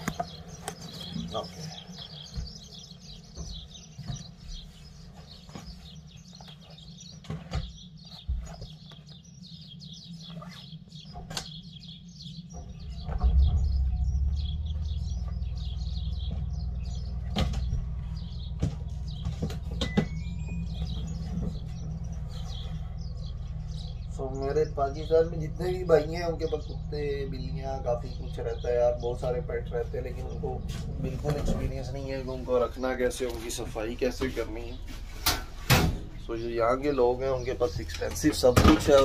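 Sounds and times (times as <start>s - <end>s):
birds chirping: 0.0s - 39.0s
van engine humming: 0.0s - 39.0s.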